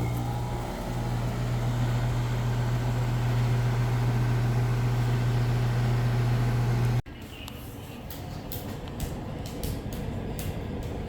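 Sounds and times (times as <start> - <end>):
fan air noise: 0.0 - 11.0
heat pump humming: 0.0 - 11.0.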